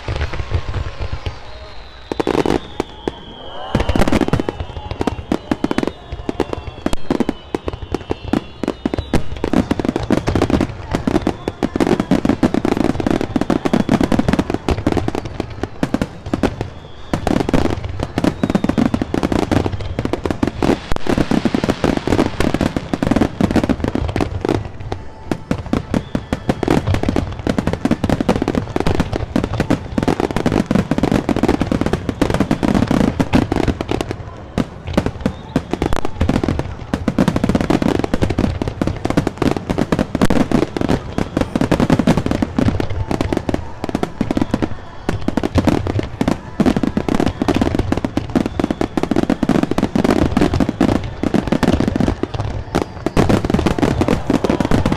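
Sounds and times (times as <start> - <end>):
firework shells booming and crackling: 0.0 - 54.9.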